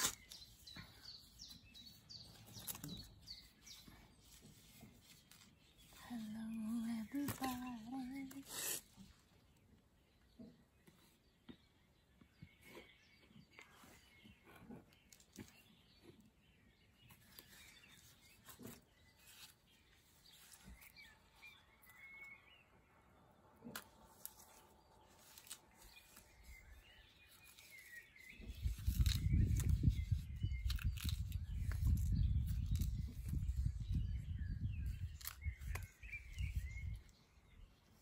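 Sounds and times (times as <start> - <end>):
hands handling plant: 0.0 - 9.6, 10.4 - 22.6, 23.6 - 34.0, 34.8 - 37.2
distant bird chirps: 0.0 - 38.0.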